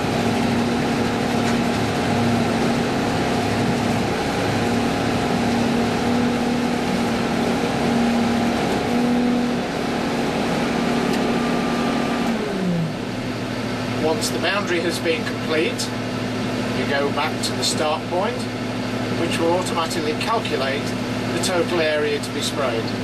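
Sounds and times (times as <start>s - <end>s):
sprayer engine droning: 0.0s - 23.0s.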